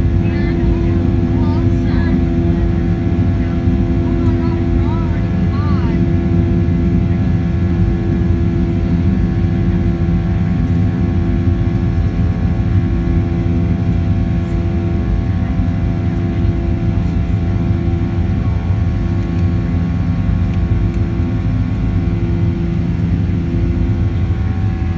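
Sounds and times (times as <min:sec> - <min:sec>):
engine buzzsaw drone: 0:00.0 - 0:24.9
jet engines rumbling in cabin: 0:00.0 - 0:24.9.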